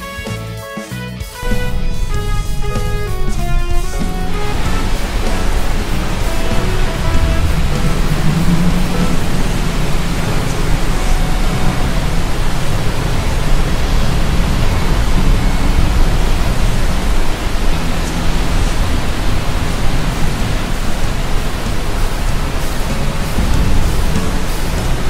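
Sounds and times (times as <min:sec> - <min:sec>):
loud rushing noise: 0:01.3 - 0:25.0
low rumble: 0:01.4 - 0:25.0.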